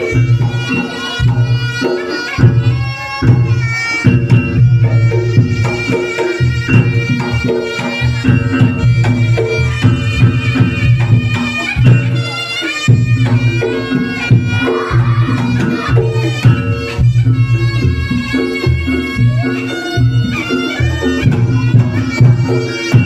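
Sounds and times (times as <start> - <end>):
hand drums: 0.0 - 23.0
shrill reedy shawm melody: 0.0 - 23.0.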